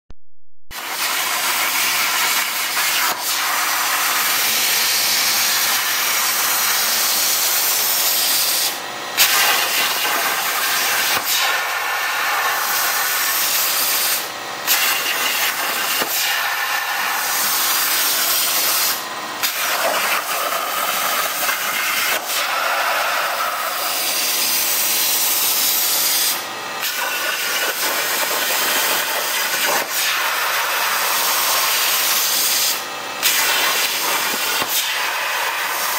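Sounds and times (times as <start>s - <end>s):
plasma cutter arc hissing: 0.7s - 35.9s.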